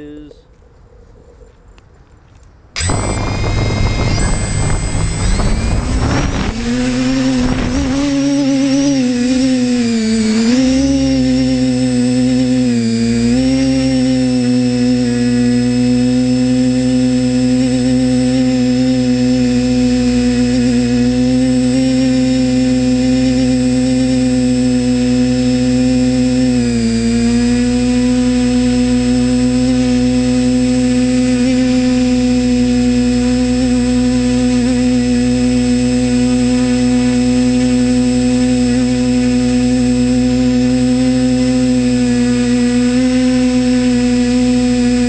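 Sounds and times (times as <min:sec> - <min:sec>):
drone motors whining: 0:02.8 - 0:45.0.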